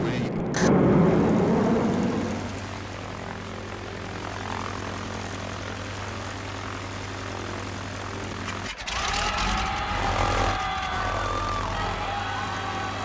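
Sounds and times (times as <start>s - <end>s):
aircraft engine droning: 0.0s - 13.0s.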